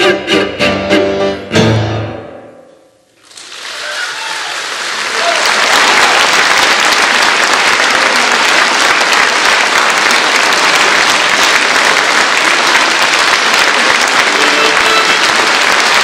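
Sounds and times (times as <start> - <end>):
audience applauding: 3.2 - 16.0.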